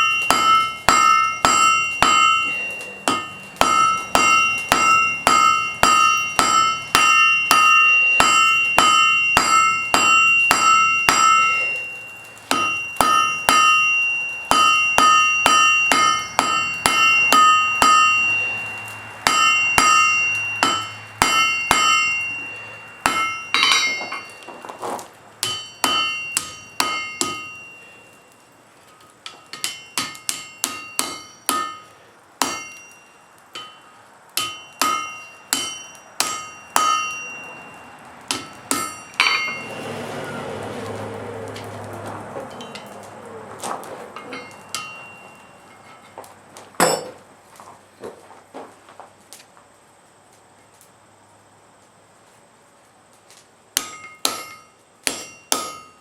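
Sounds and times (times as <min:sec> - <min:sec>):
hammer striking iron on anvil: 0:00.0 - 0:28.2, 0:29.0 - 0:39.9, 0:42.5 - 0:43.0, 0:44.2 - 0:47.2, 0:53.8 - 0:56.0.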